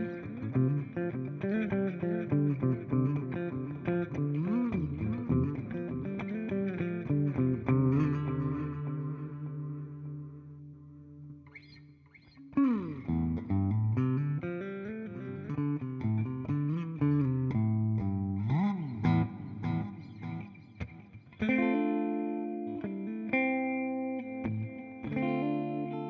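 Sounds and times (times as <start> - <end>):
electric guitar with delay: 0.0 - 26.0.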